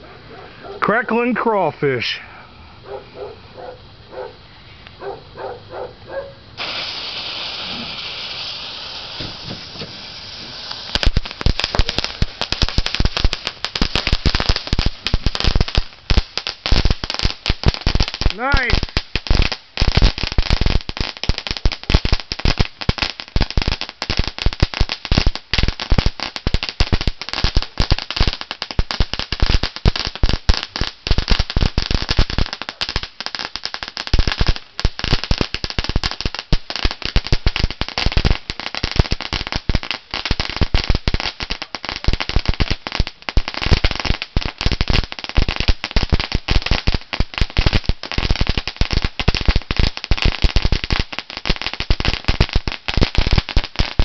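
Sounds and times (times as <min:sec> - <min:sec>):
firework crackling: 0:06.6 - 0:54.0.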